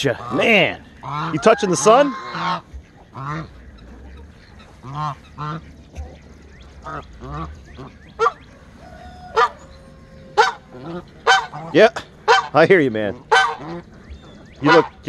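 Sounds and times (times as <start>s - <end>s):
goose honking: 0.0s - 15.0s.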